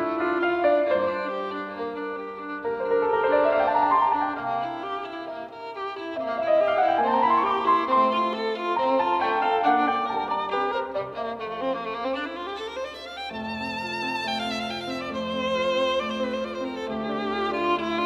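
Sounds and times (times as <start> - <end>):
violin-led instrumental music: 0.0 - 18.0.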